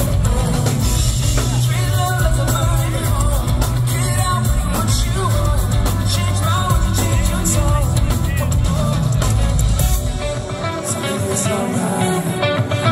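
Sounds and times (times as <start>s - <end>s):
person singing: 0.0s - 12.9s
rock band playing live: 0.0s - 12.9s.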